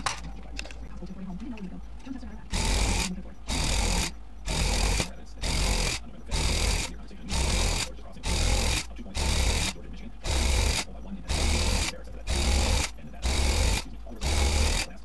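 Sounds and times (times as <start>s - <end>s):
electric tufting gun bursts: 2.5s - 15.0s.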